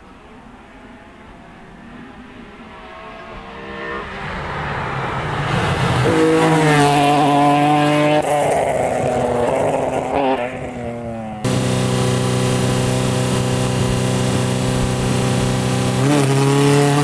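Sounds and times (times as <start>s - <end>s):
rally car engine passing: 2.6s - 17.0s.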